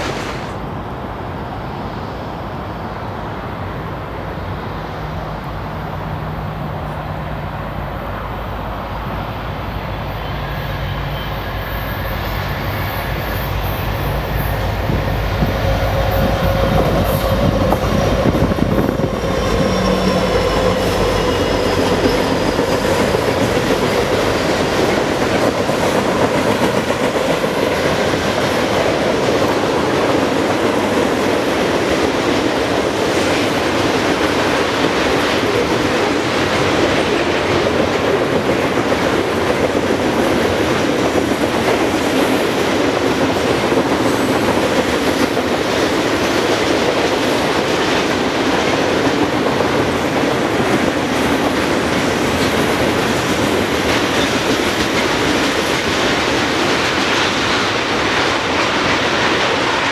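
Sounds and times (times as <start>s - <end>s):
diesel locomotive hum: 0.0s - 59.9s
freight train rolling past: 0.0s - 59.9s.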